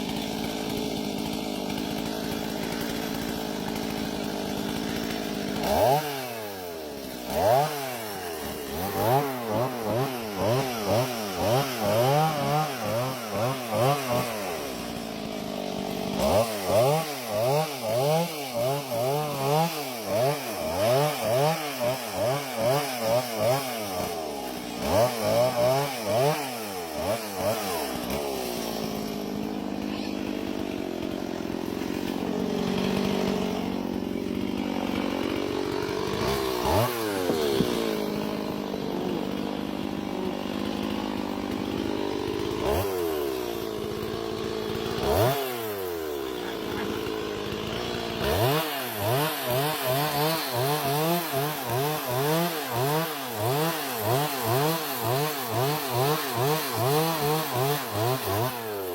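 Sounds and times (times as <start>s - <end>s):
small engine revving: 0.0s - 58.9s.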